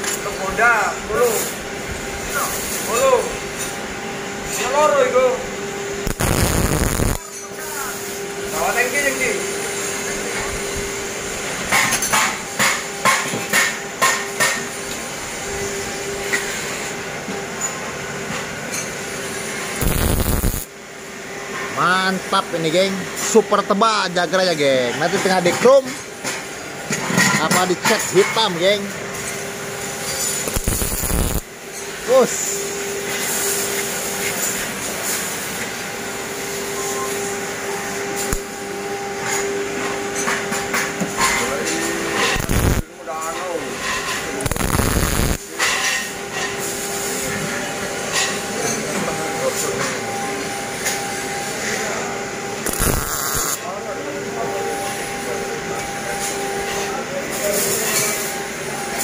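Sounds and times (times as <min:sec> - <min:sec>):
workshop machine hum and hiss: 0:00.0 - 0:59.0.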